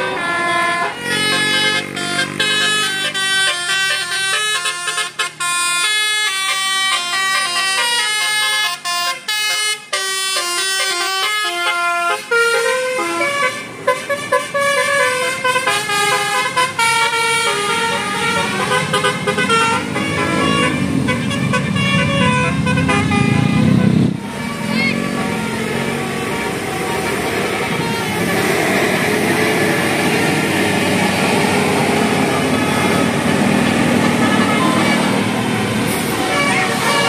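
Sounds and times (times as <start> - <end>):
bus engine rumble: 0.0 - 37.0
musical air horn melody: 0.0 - 37.0.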